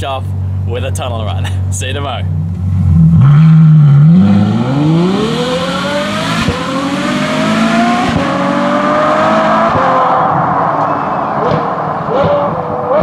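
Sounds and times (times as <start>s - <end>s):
sports car accelerating hard: 2.3s - 13.0s.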